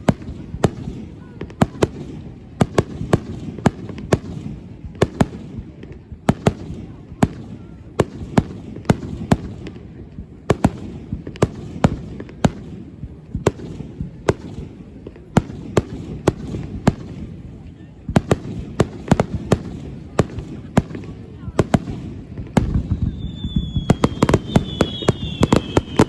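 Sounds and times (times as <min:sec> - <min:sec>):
firework bangs and cracks: 0:00.0 - 0:26.0.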